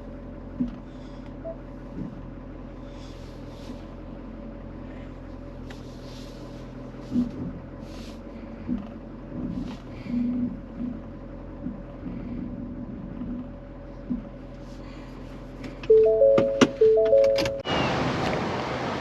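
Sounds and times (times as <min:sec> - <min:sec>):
vehicle engine idling: 0:00.0 - 0:18.9.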